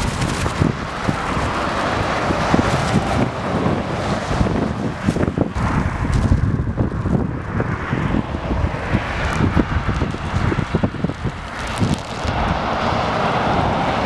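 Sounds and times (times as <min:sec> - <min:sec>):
road traffic rushing: 0:00.0 - 0:14.0
wind buffeting microphone: 0:00.0 - 0:14.0.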